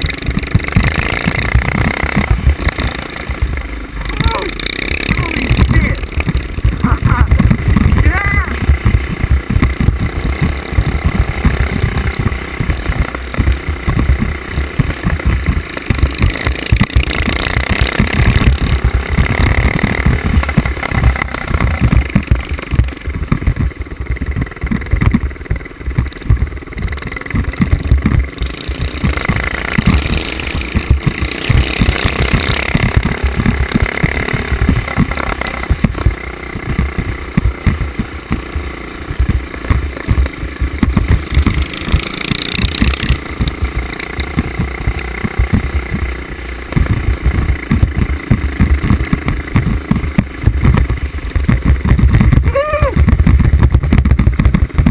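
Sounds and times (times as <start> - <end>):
mini bike engines revving: 0.0 - 54.9.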